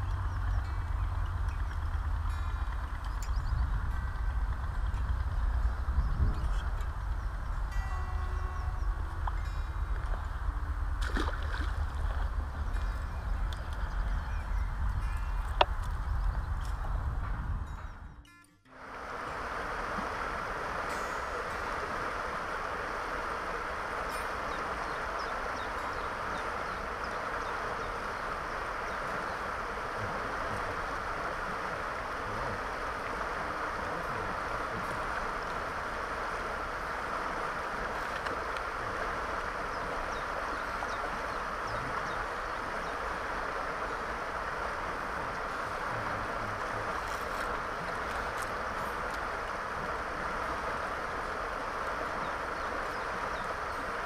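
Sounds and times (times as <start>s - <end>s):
river water rushing: 0.0s - 17.1s, 18.7s - 54.0s.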